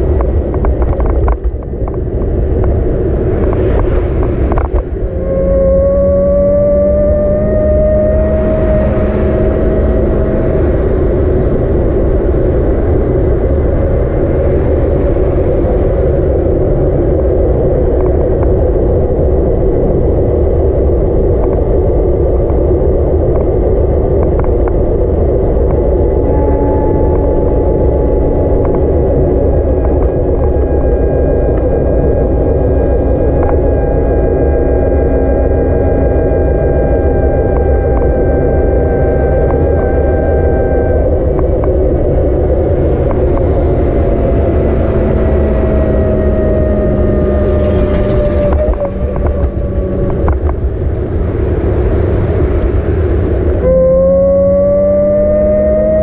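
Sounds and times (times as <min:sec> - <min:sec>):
road noise: 0:00.0 - 0:56.0
thin whine: 0:00.0 - 0:56.0
wind rumble: 0:00.0 - 0:56.0.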